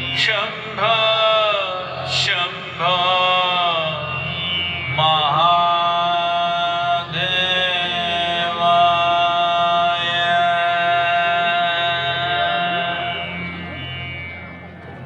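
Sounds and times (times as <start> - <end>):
low drone: 0.0 - 15.0
person chanting sustained notes: 0.0 - 15.0.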